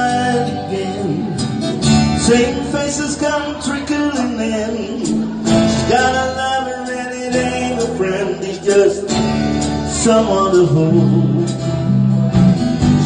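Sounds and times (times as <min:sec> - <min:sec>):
country band music: 0:00.0 - 0:13.0
strummed acoustic guitar: 0:00.0 - 0:13.0.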